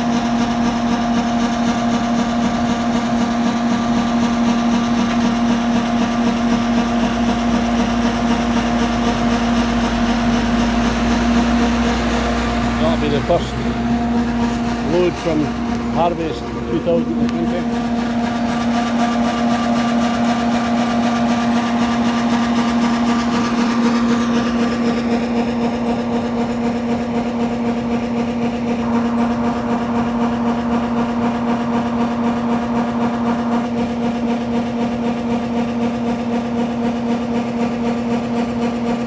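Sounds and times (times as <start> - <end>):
high whine: 0.0 - 36.1
diesel engine drone: 0.0 - 39.0.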